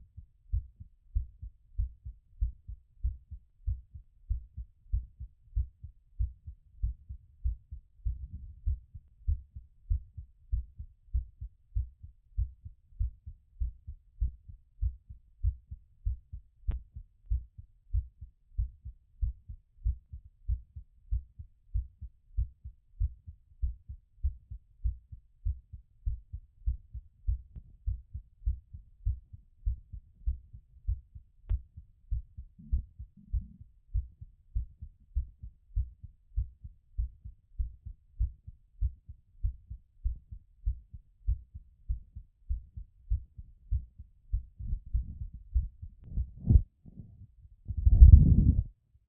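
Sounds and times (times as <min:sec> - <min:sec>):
heartbeat through stethoscope: 0:00.0 - 0:48.8.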